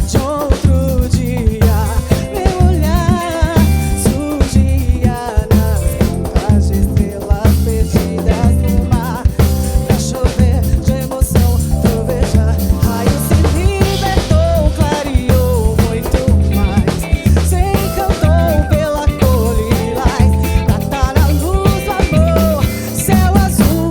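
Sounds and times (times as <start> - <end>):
band playing samba-funk: 0.0 - 23.9.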